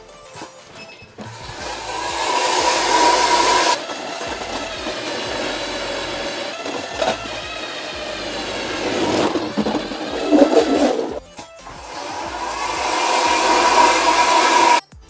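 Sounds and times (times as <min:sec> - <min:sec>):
electric motor whining: 0:01.2 - 0:14.8.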